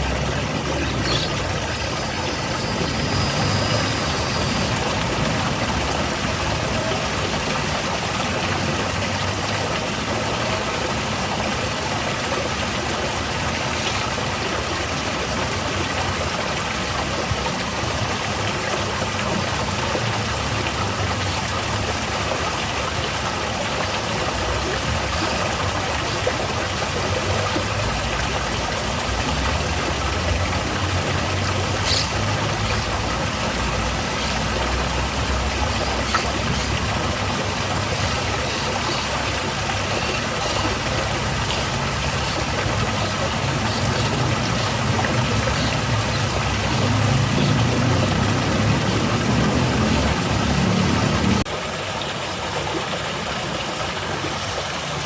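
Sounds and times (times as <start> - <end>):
garden waterfall splashing: 0.0 - 55.0.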